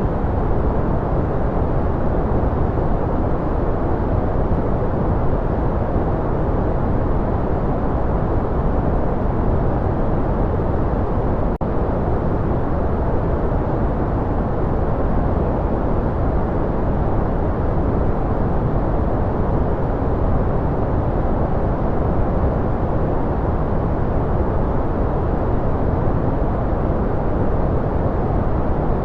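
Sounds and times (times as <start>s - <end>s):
deep muffled white noise: 0.0s - 29.0s.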